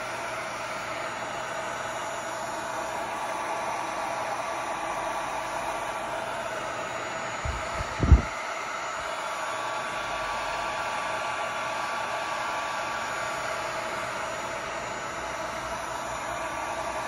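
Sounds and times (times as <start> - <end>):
heat gun blowing hot air: 0.0 - 17.0.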